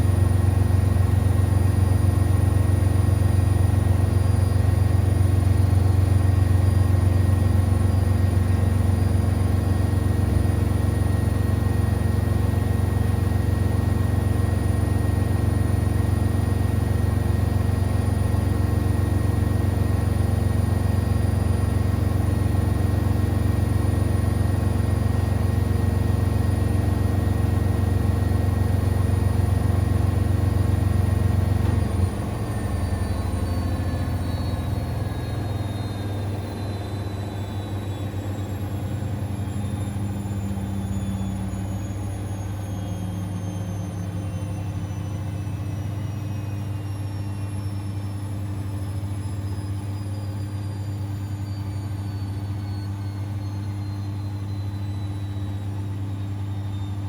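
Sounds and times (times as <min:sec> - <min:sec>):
washing machine spinning: 0:00.0 - 0:51.0.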